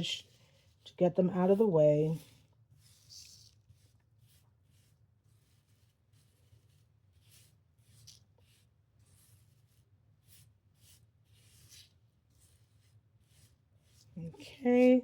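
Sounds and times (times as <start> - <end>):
brush swishing: 0.0 - 15.0.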